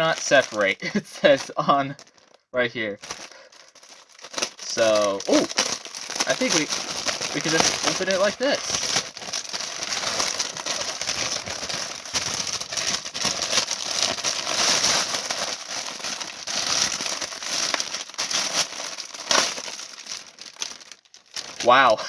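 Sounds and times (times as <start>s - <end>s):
plastic bag crinkling: 0.0s - 2.4s, 3.0s - 22.0s.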